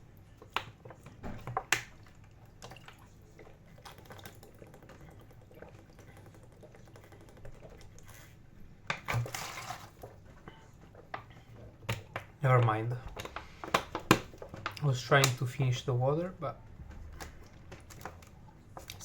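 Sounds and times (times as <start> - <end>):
water sloshing in bottle: 0.2 - 15.5.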